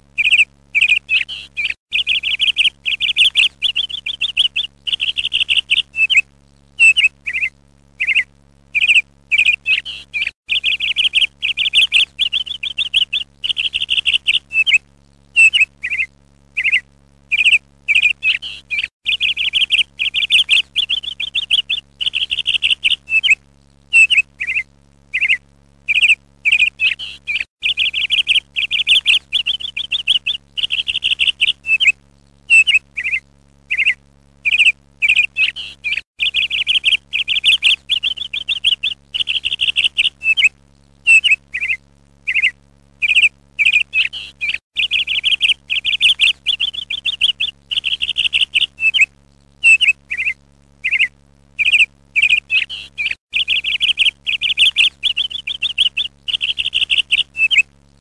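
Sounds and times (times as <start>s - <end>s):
faint steady low hum: 0.0s - 58.0s
songbird chirping in trills: 0.2s - 6.2s, 6.8s - 14.8s, 15.4s - 57.7s.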